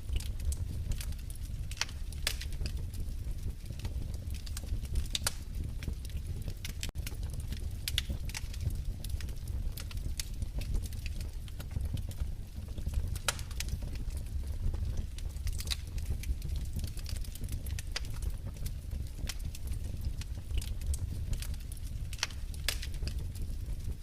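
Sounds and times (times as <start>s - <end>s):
fire crackles and pops: 0.0s - 24.0s
fire rumbling: 0.0s - 24.0s.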